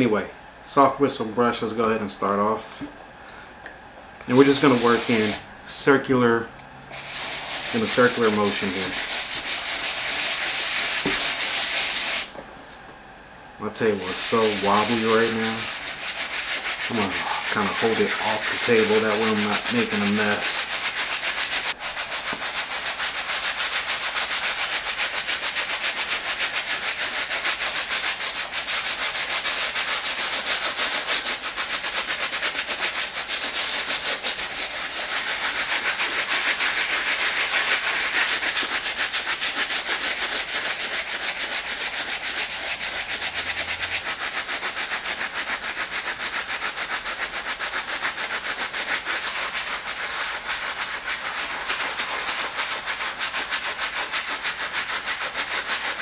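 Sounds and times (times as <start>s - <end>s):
brush scrubbing a sneaker: 4.3s - 5.4s, 6.9s - 12.3s, 13.9s - 56.0s.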